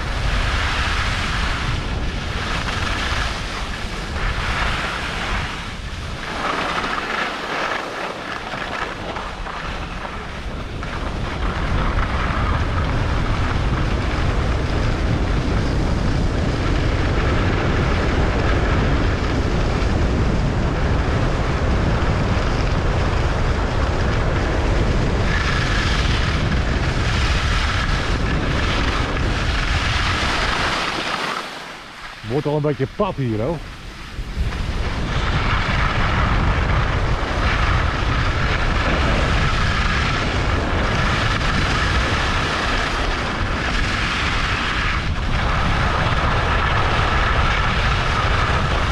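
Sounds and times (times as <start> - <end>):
skis scraping on snow: 0.0 - 48.9
wind rushing over microphone: 0.0 - 48.9.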